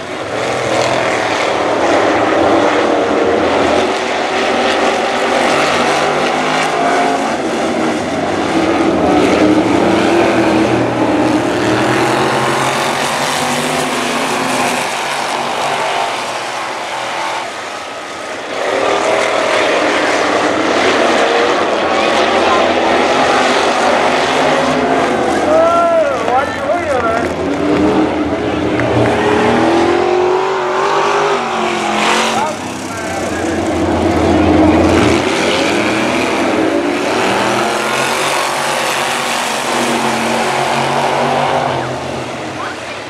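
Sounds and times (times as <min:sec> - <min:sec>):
race car engines droning: 0:00.0 - 0:43.0.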